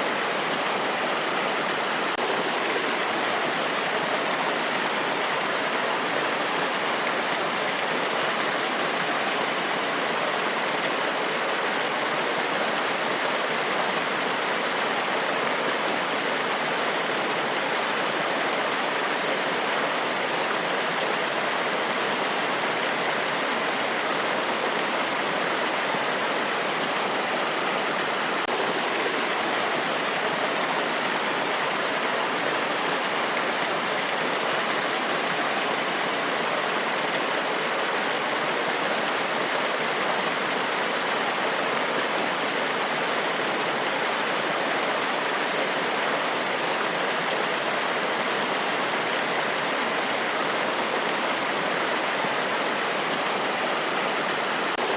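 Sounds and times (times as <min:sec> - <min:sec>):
rushing water of cascade: 0:00.0 - 0:54.9.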